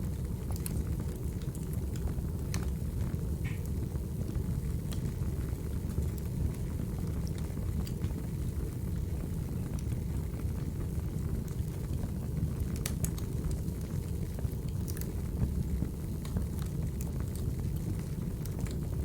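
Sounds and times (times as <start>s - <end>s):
fire crackling and popping: 0.0s - 19.0s
firewood burning: 0.0s - 19.0s.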